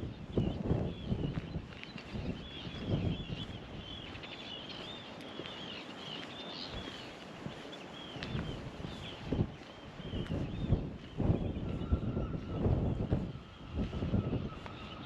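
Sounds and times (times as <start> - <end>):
bird chirping: 0.0 - 15.0
footsteps: 1.2 - 15.0.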